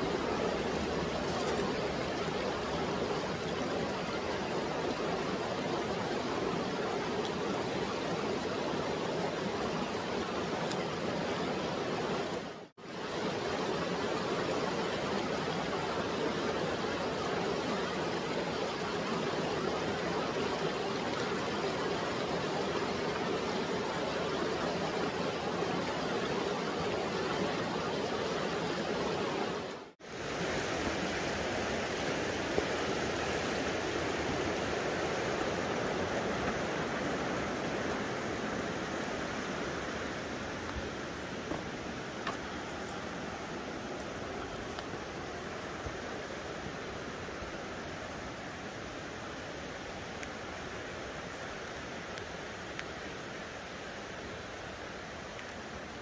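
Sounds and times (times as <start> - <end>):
water rushing in stream: 0.0 - 56.0.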